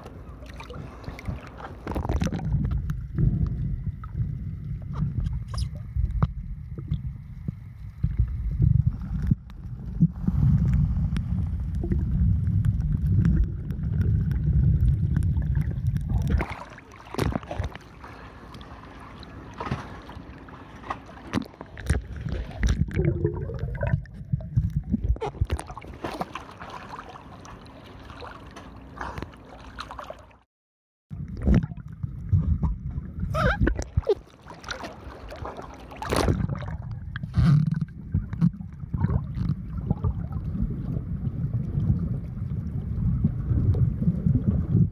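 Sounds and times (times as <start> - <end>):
underwater water rumble: 0.0 - 30.5, 31.1 - 44.9.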